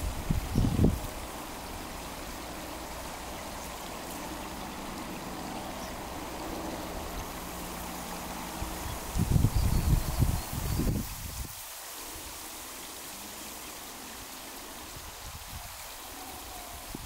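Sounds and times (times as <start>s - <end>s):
water running over dam: 0.0s - 17.0s.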